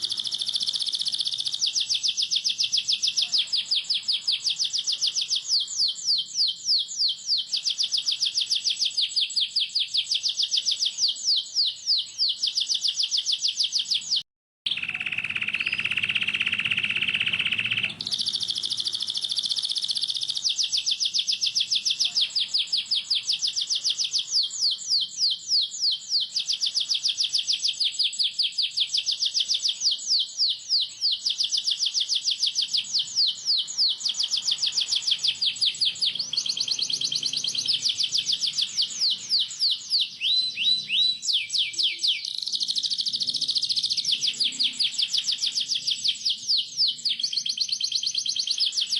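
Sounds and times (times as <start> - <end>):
canary singing: 0.0 - 48.9.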